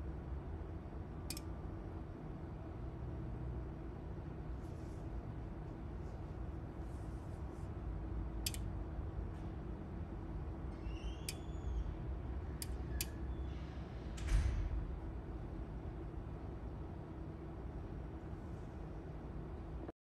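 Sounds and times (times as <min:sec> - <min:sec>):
fan hum: 0:00.0 - 0:19.9.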